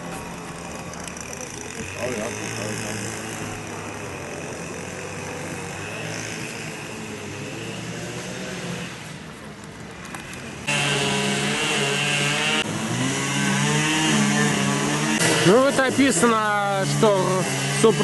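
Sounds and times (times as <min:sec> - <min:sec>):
small engine running: 0:00.0 - 0:09.3, 0:10.0 - 0:18.0.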